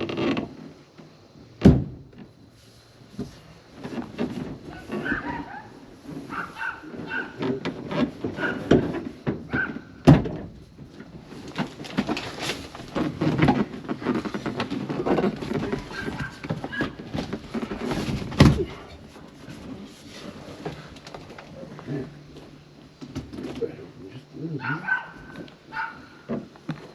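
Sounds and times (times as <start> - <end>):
rustling and scraping: 2.1 - 26.9.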